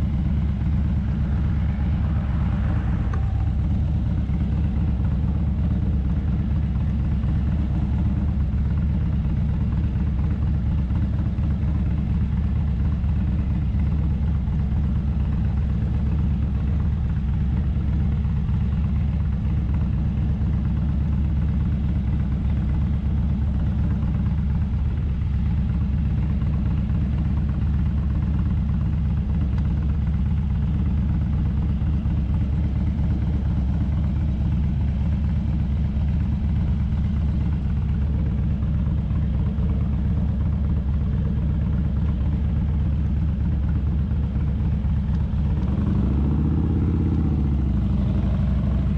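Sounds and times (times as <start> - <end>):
motorcycle engine rumbling: 0.0 - 48.9.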